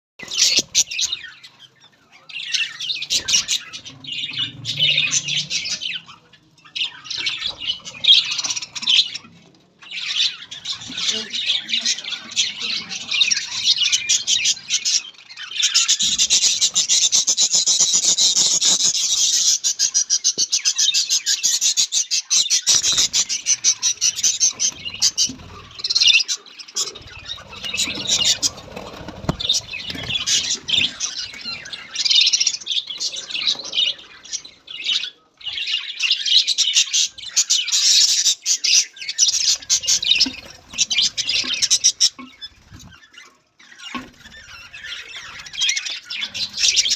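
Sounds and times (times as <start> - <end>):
budgerigars chattering and chirping: 0.2 - 46.9.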